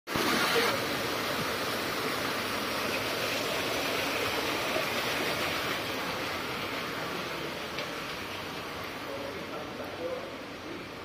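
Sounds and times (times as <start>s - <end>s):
water pouring into a pool: 0.1s - 9.8s.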